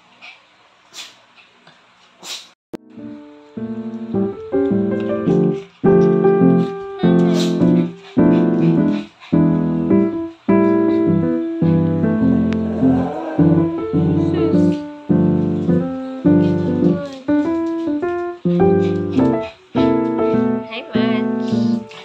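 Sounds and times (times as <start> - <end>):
soft piano chords: 2.8 - 22.0.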